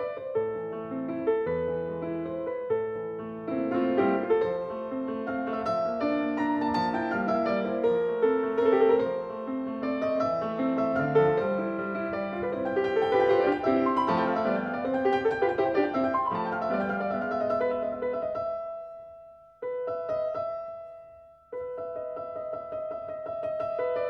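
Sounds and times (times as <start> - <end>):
calm solo piano music: 0.0 - 24.0.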